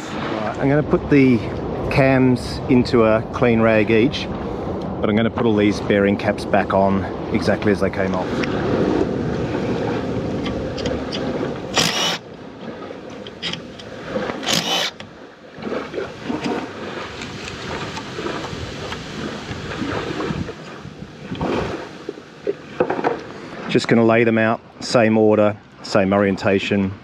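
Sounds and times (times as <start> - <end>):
background rumble: 0.0 - 25.9.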